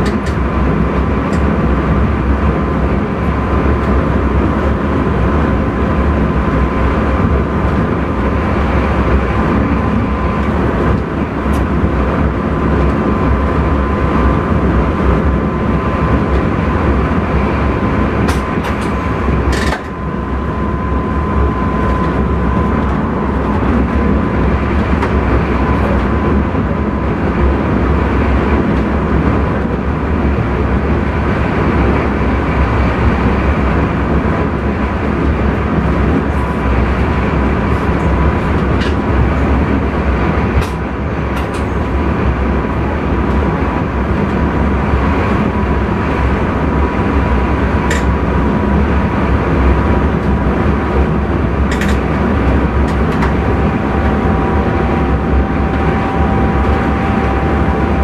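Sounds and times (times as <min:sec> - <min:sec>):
thin steady whine: 0:00.0 - 0:58.0
train rumble and rail noise: 0:00.0 - 0:58.0.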